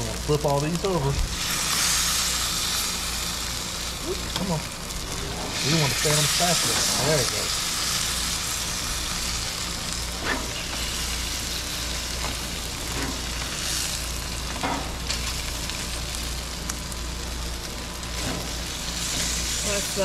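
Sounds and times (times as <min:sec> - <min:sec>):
fish sizzling on grill: 0:00.0 - 0:20.0.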